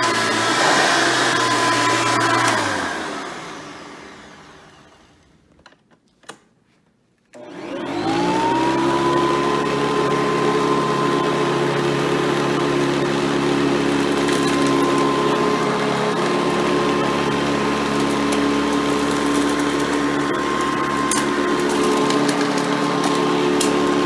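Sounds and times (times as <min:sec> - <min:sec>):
vacuum cleaner motor whine: 0:00.0 - 0:05.4, 0:07.4 - 0:24.0.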